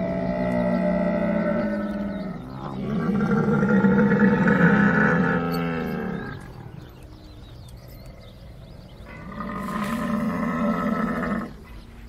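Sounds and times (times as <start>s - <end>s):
camel moaning call: 0.0s - 7.0s, 9.0s - 11.7s.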